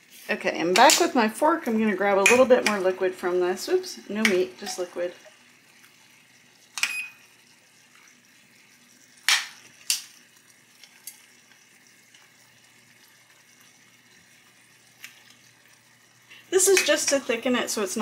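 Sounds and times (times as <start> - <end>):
curry sizzling in a pan: 0.0 - 18.0.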